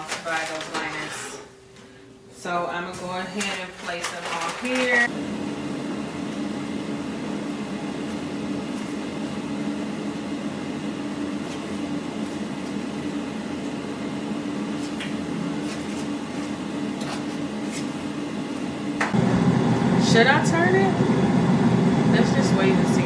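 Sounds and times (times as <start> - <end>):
air fryer fan humming: 4.0 - 23.0.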